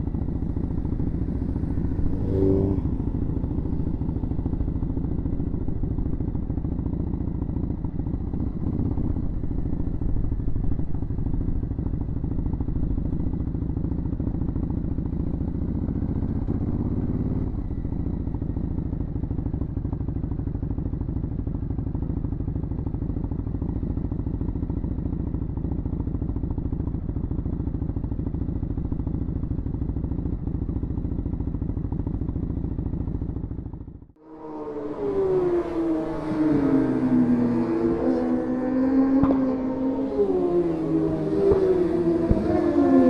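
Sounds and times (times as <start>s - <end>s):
motorcycle engine at low revs: 0.0s - 43.0s.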